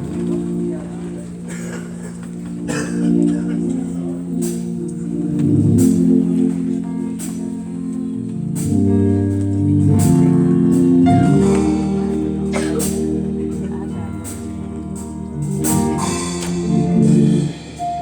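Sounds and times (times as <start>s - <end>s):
organ playing chords: 0.0s - 18.0s.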